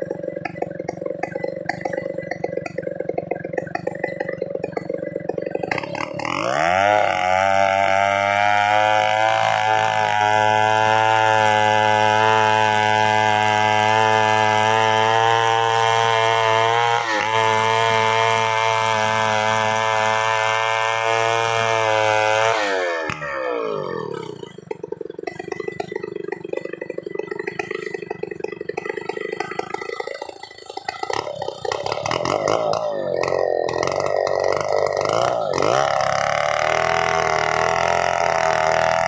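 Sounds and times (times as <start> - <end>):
chainsaw engine revving: 0.0 - 39.0.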